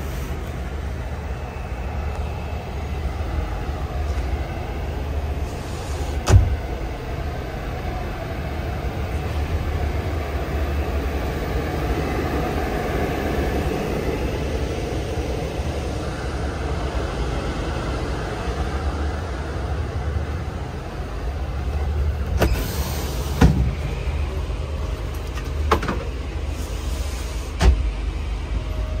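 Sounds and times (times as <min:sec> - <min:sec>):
coach engine running: 0:00.0 - 0:29.0.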